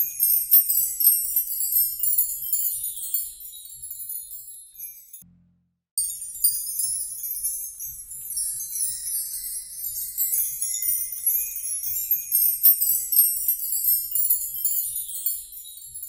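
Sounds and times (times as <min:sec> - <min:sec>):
small metal bells jingling: 0:00.0 - 0:05.2, 0:06.0 - 0:16.0.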